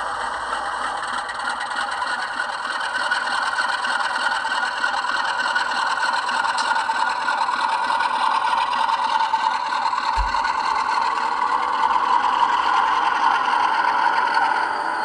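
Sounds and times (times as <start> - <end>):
model train diesel engine sound: 0.0 - 15.0.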